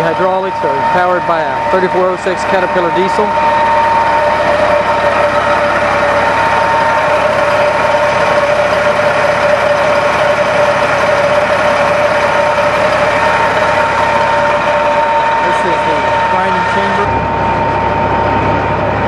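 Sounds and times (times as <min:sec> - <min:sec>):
diesel engine running: 0:00.0 - 0:19.0
two-note whine: 0:00.0 - 0:19.0.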